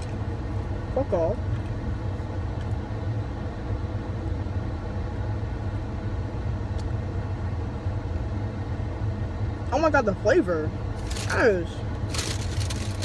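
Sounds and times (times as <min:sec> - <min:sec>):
car idling inside cabin: 0:00.0 - 0:13.0.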